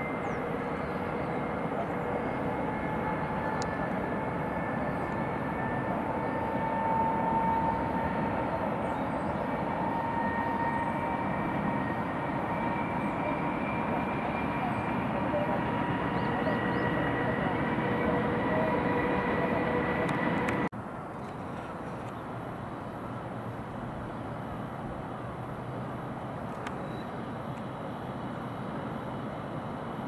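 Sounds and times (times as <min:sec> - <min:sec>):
distant city traffic hum: 0:00.0 - 0:30.0.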